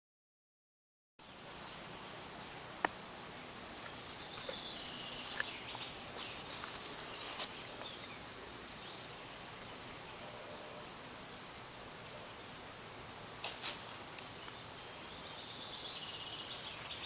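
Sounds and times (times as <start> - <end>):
steady hiss: 1.2 - 17.0.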